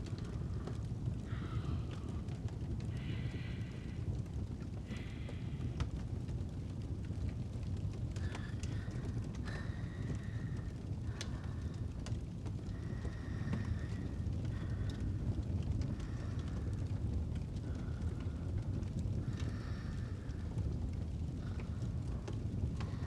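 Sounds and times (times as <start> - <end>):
burning wood crackling and popping: 0.0 - 23.0
fireplace low rumble: 0.0 - 23.0.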